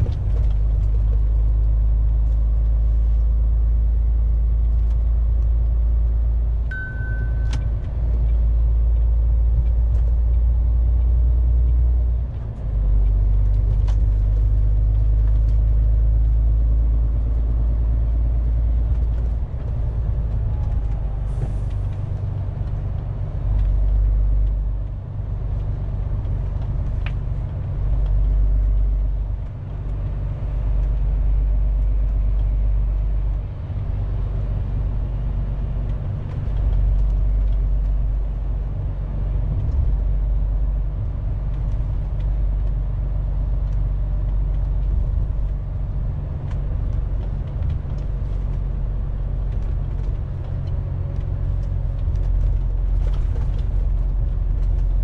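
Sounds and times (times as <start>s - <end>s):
road rumble: 0.0s - 55.0s
truck diesel engine drone: 0.0s - 55.0s.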